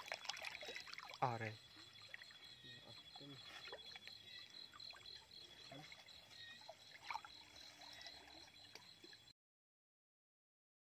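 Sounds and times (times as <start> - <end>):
river water trickling and sloshing: 0.0 - 9.3
small water splash: 0.0 - 9.3.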